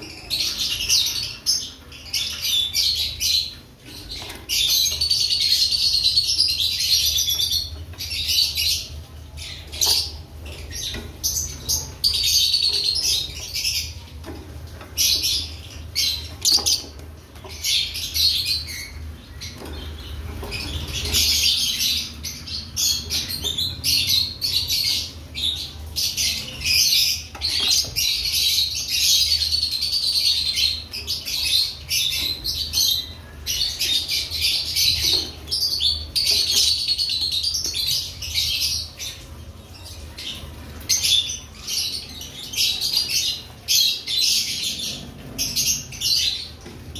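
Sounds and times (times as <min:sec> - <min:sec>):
bird chirping high-pitched: 0:00.0 - 0:46.7.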